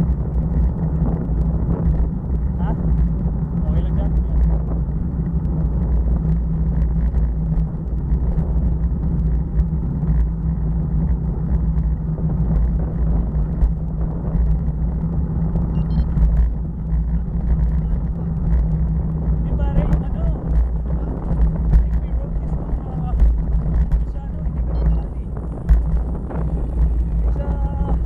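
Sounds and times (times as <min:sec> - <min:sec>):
bicycle clicks and rattles: 0:00.0 - 0:28.0
wind and road rumble: 0:00.0 - 0:28.0.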